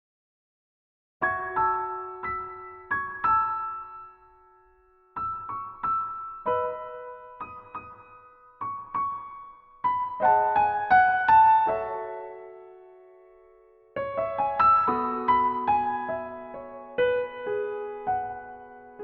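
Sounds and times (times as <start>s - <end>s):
soft piano music: 1.2s - 19.0s.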